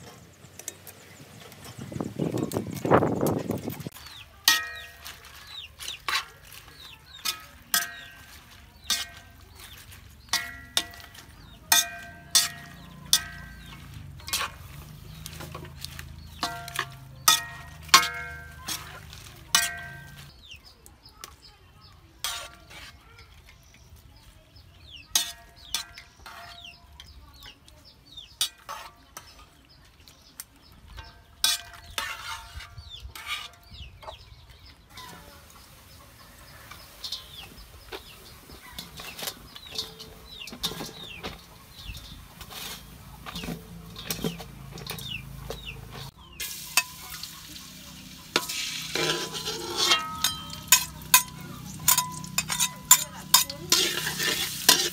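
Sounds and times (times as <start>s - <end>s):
chickens clucking and peeping: 0.0s - 54.9s
metal tongs clanking on wok: 0.6s - 20.3s, 25.0s - 54.9s.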